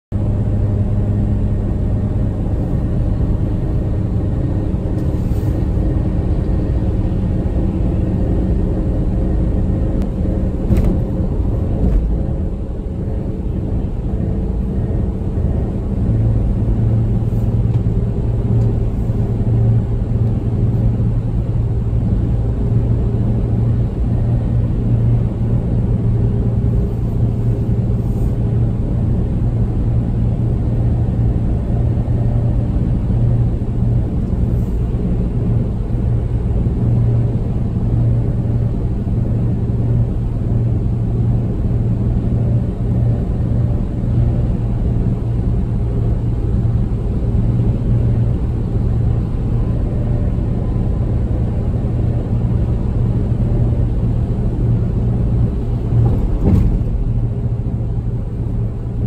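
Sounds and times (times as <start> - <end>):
car engine and tyre rumble: 0.0 - 59.0
low hum: 0.1 - 59.0.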